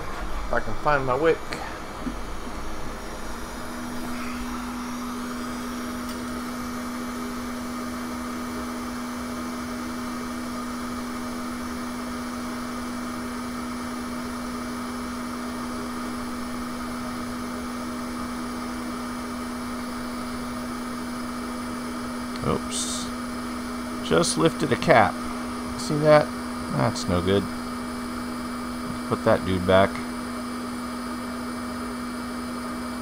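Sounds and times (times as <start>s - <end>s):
electric blower fan whirring: 0.0s - 33.0s.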